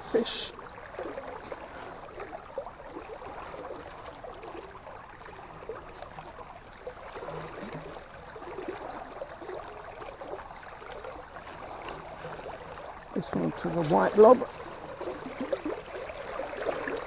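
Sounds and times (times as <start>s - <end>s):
river water babbling: 0.0s - 17.0s.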